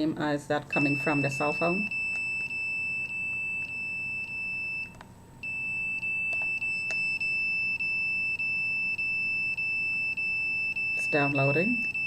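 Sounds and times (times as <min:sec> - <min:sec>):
high-pitched detector beeping: 0:00.7 - 0:12.0.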